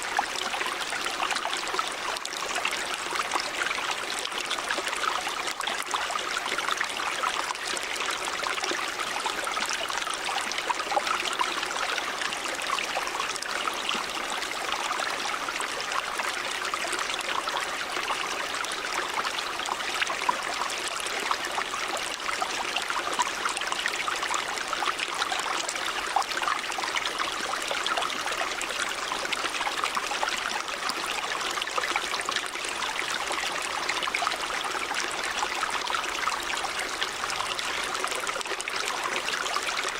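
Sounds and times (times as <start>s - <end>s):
stream splashing over rocks: 0.0s - 39.9s.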